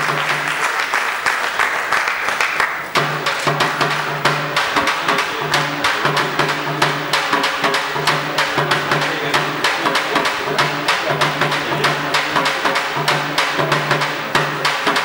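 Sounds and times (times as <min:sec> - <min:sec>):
drums beaten fast: 0:00.0 - 0:01.0, 0:02.8 - 0:15.0.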